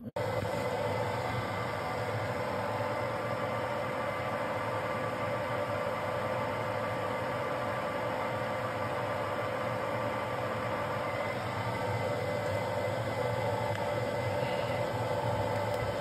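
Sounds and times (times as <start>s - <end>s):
lathe running with whine: 0.0s - 16.0s.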